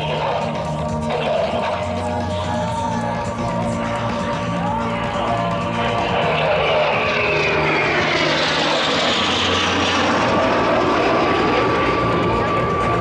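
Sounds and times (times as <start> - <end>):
jet engines roaring past: 0.0 - 13.0.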